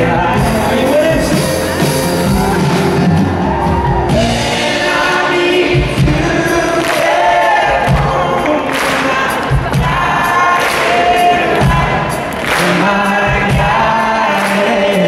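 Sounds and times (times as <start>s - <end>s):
man singing: 0.0s - 2.4s, 4.1s - 15.0s
crowd singing along: 0.0s - 15.0s
keyboard: 0.0s - 15.0s.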